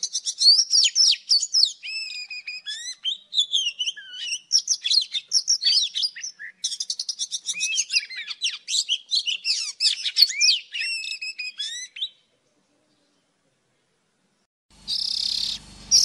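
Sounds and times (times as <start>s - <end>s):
bird singing whistled notes: 0.0s - 12.3s, 14.8s - 16.0s.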